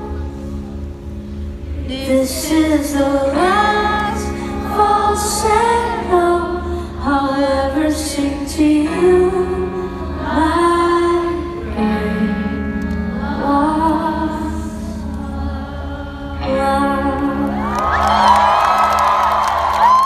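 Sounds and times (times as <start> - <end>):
pop band with steady bass: 0.0 - 20.0
woman singing long held notes: 1.8 - 19.0.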